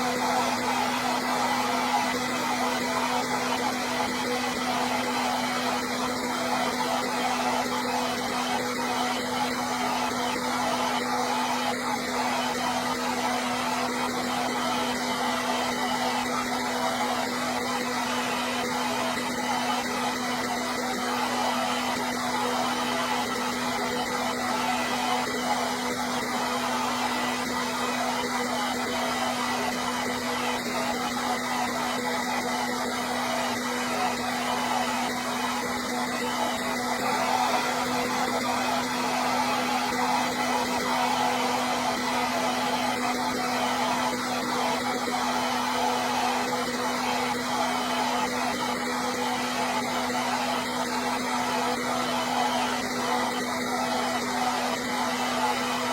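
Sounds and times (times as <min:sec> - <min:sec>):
hair dryer running: 0:00.0 - 0:55.9.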